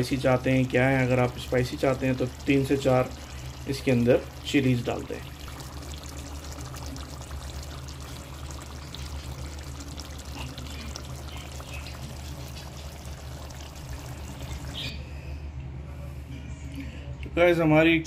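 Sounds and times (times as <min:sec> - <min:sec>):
curry sizzling in oil: 0:00.0 - 0:15.0.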